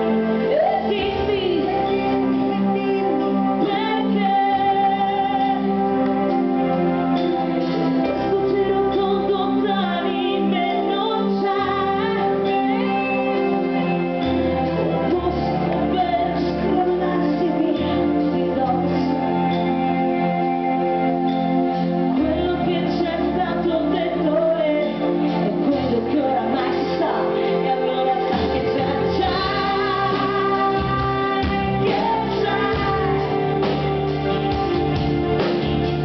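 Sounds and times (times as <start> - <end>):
instrumental backing chords and bass: 0.0 - 36.0
woman singing a pop ballad: 0.3 - 6.8, 8.0 - 20.6, 22.1 - 34.8.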